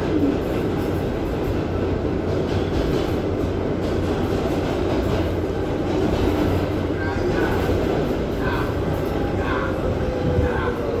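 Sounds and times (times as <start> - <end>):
subway train rumbling and rattling: 0.0 - 11.0.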